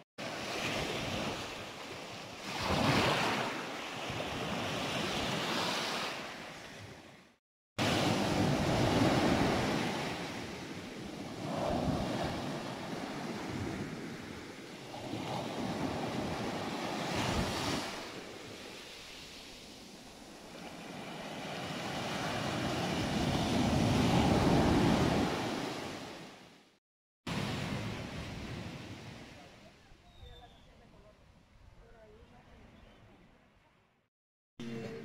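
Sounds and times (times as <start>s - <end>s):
ocean waves washing on sand: 0.2s - 7.2s, 7.8s - 26.5s, 27.3s - 29.6s.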